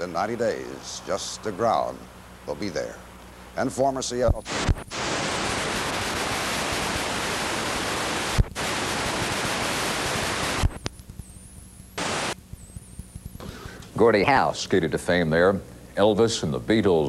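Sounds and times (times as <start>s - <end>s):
videotape static hiss: 0.0s - 17.0s.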